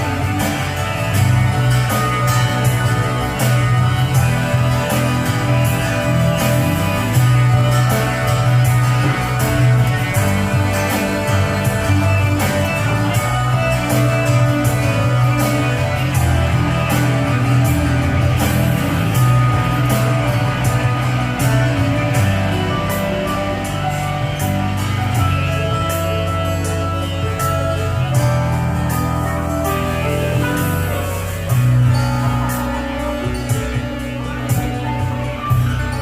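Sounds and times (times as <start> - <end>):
guitar-led instrumental music: 0.0 - 36.0.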